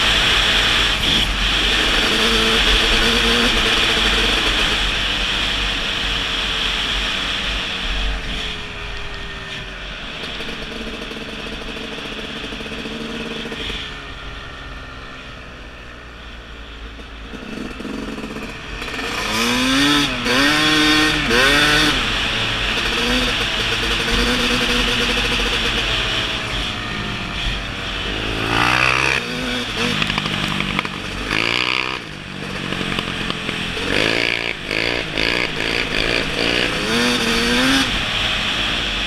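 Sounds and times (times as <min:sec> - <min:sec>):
dirt bike engine revving: 0:00.0 - 0:14.7, 0:17.2 - 0:39.0.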